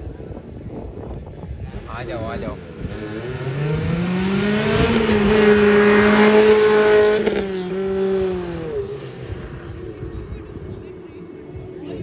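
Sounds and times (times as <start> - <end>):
sports car accelerating: 1.7 - 12.0.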